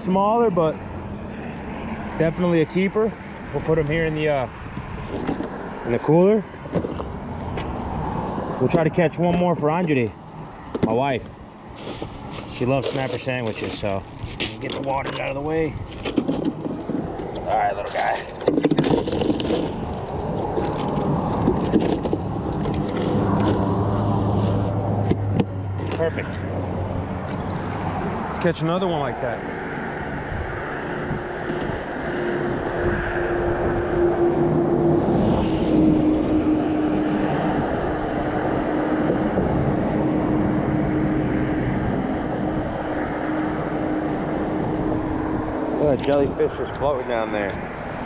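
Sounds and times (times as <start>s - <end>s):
road traffic rush: 0.0s - 48.0s
vehicle engine hum: 0.0s - 48.0s.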